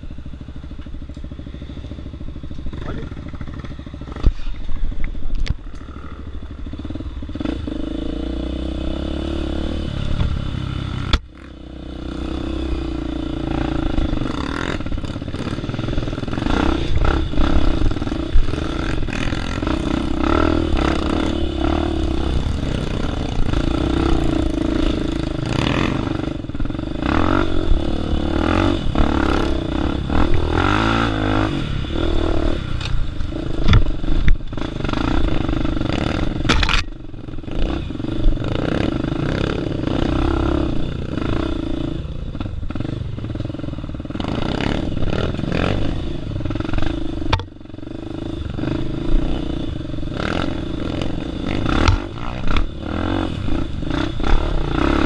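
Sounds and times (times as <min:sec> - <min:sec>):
dirt bike engine revving: 0:00.0 - 0:04.6, 0:05.7 - 0:55.0.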